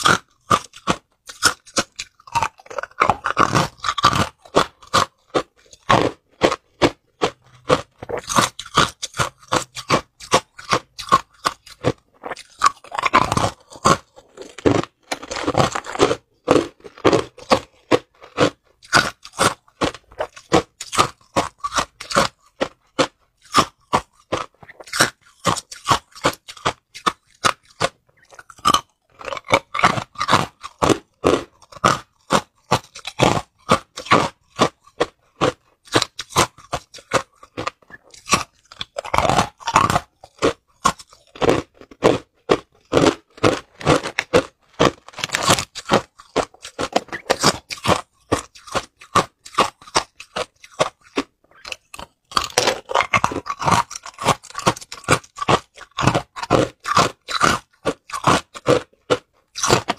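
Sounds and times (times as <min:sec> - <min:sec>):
ice cubes crunched by teeth: 0:00.0 - 0:59.9.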